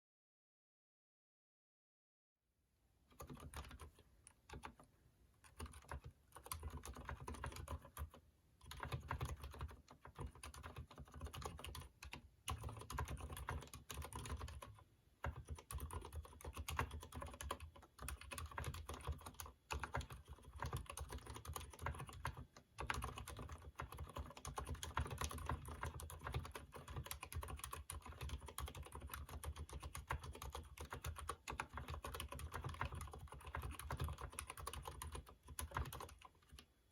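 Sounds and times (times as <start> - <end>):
typing on mechanical keyboard: 3.1 - 36.7.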